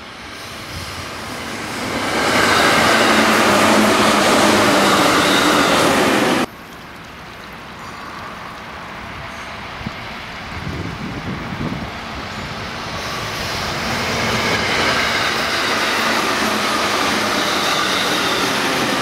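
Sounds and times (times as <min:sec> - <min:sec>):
train passing: 0:00.0 - 0:19.0.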